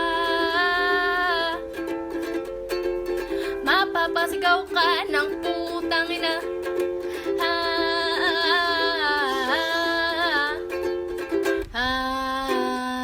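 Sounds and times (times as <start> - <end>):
plucked string sound: 0.0 - 13.0.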